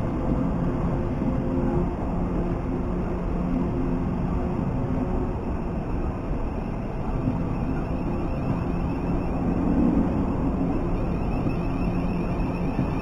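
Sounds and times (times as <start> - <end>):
low hum: 0.0 - 13.0
train wheels rumbling on rails: 0.0 - 13.0.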